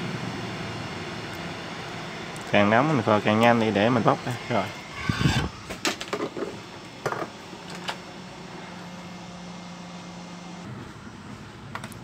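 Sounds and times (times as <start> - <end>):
hot-air station fan humming: 0.0 - 12.0.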